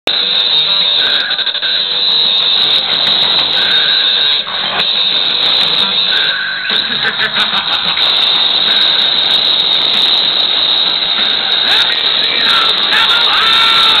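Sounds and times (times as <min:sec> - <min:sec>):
distorted live rock concert: 0:00.1 - 0:14.0
steady high whine: 0:00.1 - 0:14.0.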